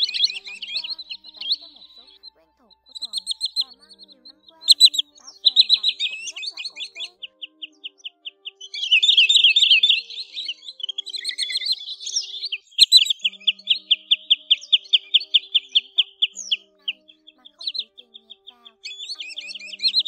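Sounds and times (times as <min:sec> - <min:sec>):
sandpipers calling: 0:00.0 - 0:20.0.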